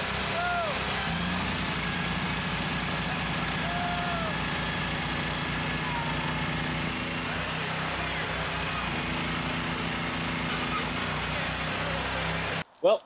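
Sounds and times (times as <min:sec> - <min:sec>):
small engines running under load: 0:00.0 - 0:12.6.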